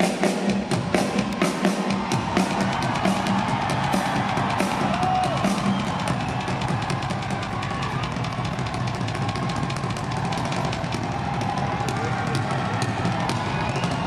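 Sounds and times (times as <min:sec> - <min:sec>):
rock drum kit played live: 0:00.0 - 0:14.0.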